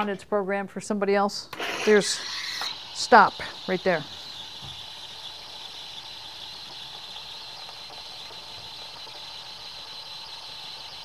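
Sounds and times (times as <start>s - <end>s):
espresso machine steaming milk: 1.6s - 11.0s
thin high whine: 1.6s - 11.0s.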